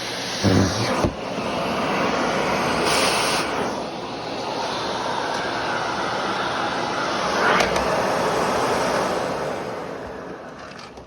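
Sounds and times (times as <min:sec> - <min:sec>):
vacuum cleaner motor running: 0:00.0 - 0:11.0.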